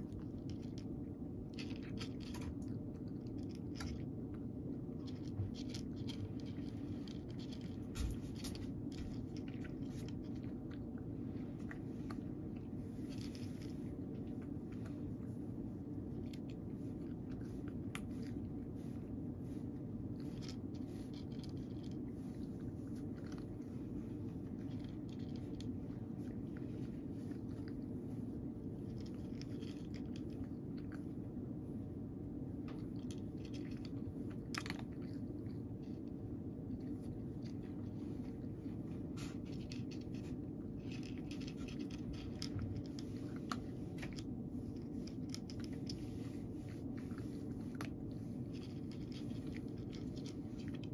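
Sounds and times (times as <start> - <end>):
cat crunching kibble: 0.0 - 50.9
low background hum: 0.0 - 50.9.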